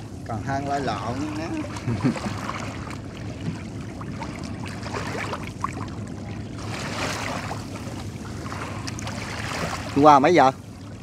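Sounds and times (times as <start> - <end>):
low steady rumble: 0.0 - 11.0
water splashing and trickling: 0.0 - 11.0.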